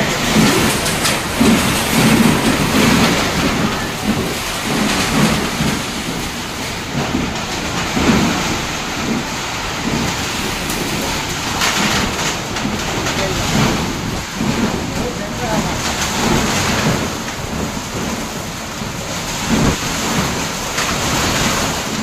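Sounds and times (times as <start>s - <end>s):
heavy rain on a metal roof: 0.0s - 22.0s
low rumbles: 0.0s - 22.0s.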